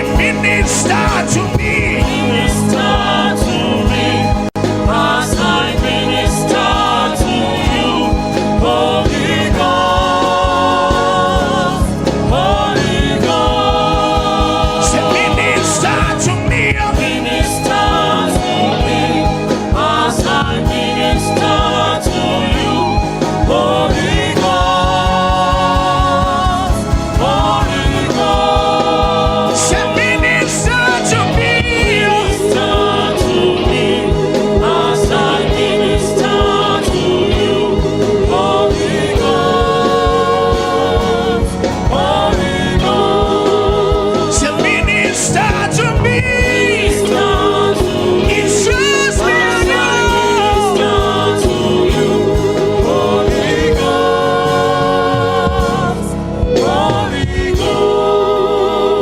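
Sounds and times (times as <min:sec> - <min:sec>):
gospel singing over chords: 0:00.0 - 0:59.0.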